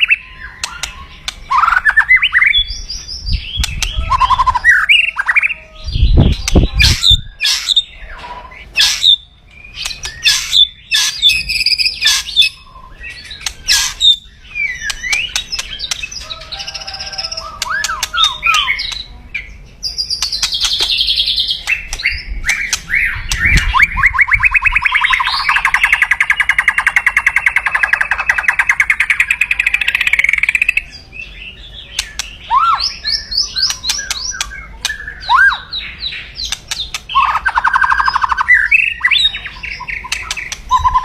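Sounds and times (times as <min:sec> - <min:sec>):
bird calling with clicks and trills: 0:00.0 - 0:41.0.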